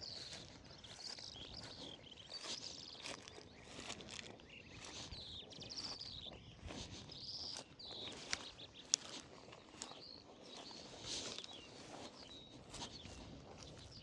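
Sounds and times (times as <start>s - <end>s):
birds singing: 0.0s - 14.0s
footsteps through grass: 0.0s - 14.0s.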